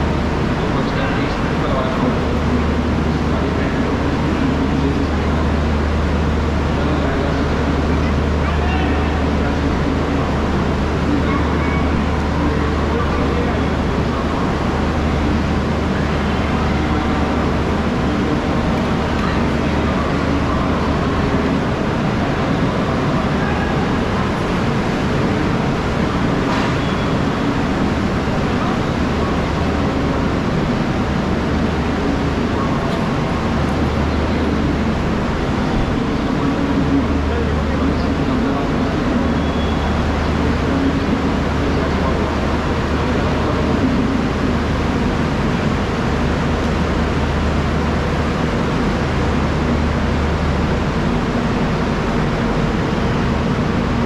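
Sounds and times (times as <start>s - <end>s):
murmur of people: 0.0s - 54.0s
people talking: 0.0s - 54.0s
train low hum: 0.0s - 54.0s.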